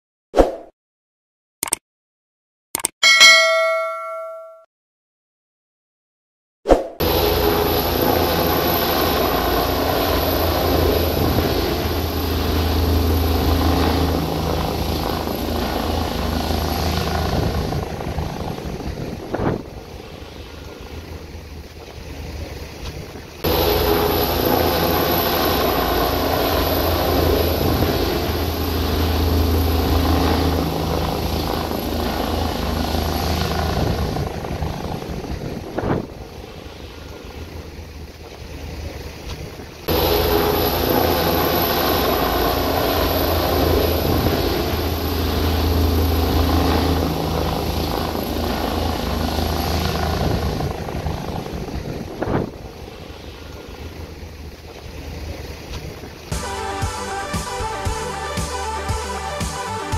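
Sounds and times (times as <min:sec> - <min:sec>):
helicopter rotor and engine: 0:07.0 - 0:39.2, 0:39.8 - 0:57.0.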